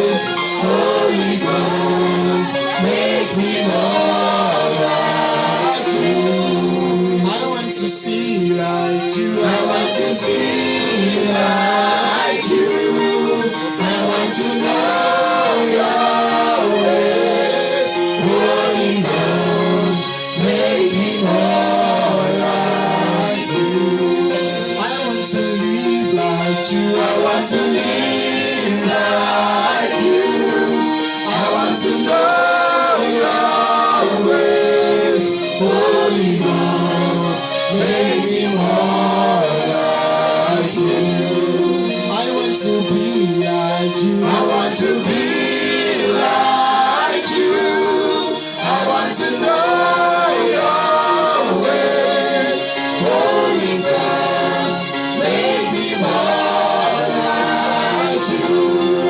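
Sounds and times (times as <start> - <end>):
backing music: 0.0 - 59.0
voices singing gospel song: 0.0 - 59.0.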